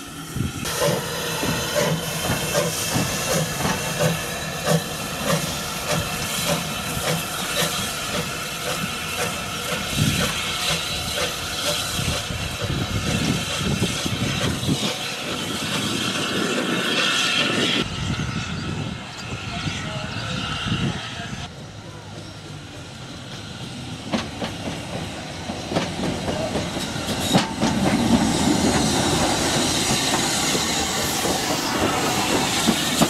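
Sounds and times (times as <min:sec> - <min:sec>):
steam hiss: 0:00.0 - 0:21.4, 0:22.4 - 0:33.0
steam locomotive exhaust chuffs: 0:00.0 - 0:33.0.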